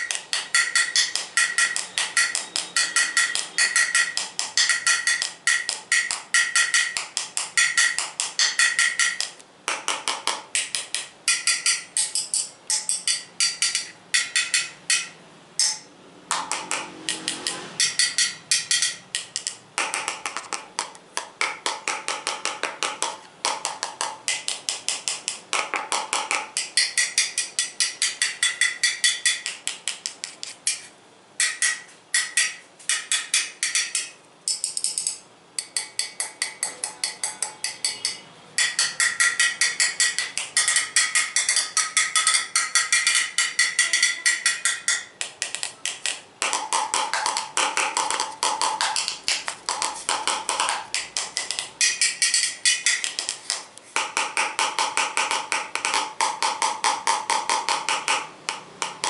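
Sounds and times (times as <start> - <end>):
fast tapping on hard objects: 0.0 - 59.0.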